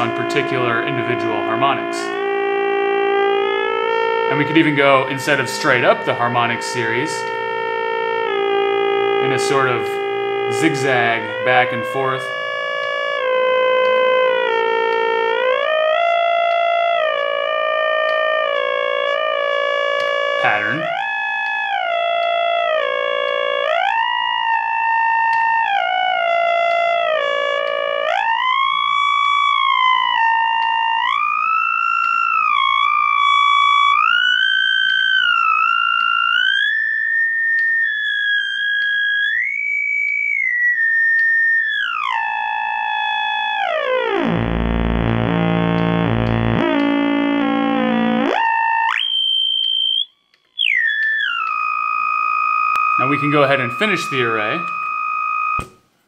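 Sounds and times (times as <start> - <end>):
buzzy synth tone gliding: 0.0 - 55.7.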